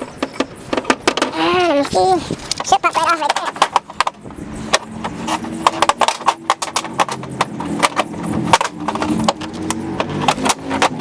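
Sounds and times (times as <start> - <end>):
hand tools clicking and knocking: 0.0 - 11.0.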